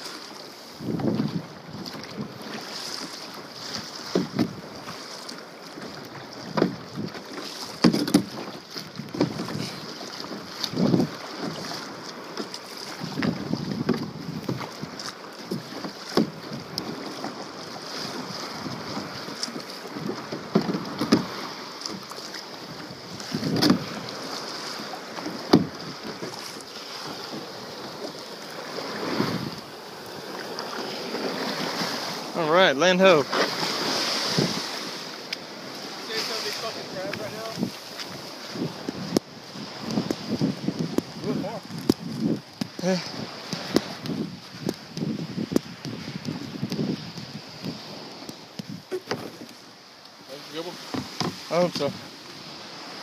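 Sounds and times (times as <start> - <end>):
paddle strokes splashing: 0.0 - 53.0
wind and water wash: 0.0 - 53.0.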